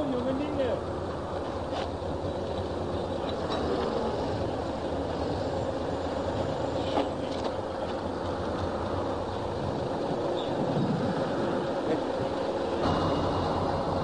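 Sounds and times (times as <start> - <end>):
crane engine rumbling: 0.0 - 14.0
faint engine whine: 0.0 - 14.0.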